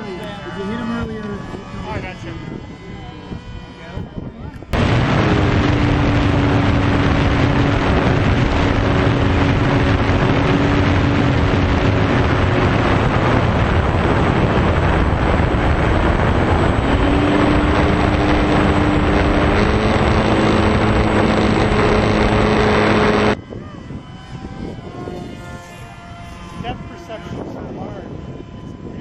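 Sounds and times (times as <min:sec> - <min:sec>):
model plane motors whining: 0:00.0 - 0:29.0
wind noise on microphone: 0:00.0 - 0:29.0.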